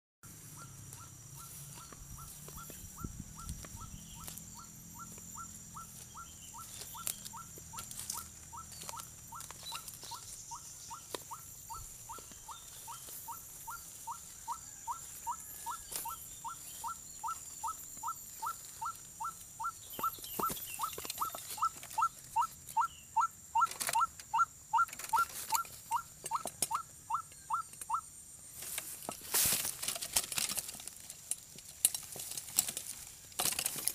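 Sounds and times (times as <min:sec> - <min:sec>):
waterhen calling: 0:00.5 - 0:28.1.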